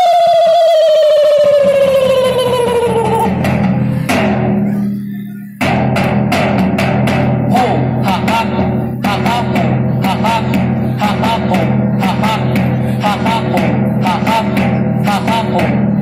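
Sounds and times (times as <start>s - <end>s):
drum-led folk dance music: 1.4s - 16.0s.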